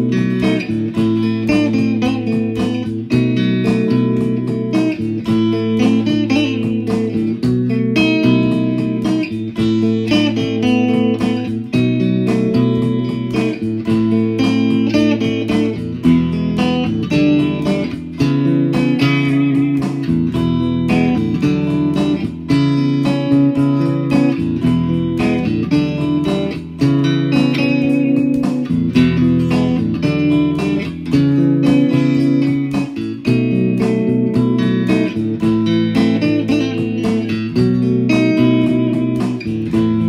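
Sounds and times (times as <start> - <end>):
plucked guitar: 0.0 - 40.0.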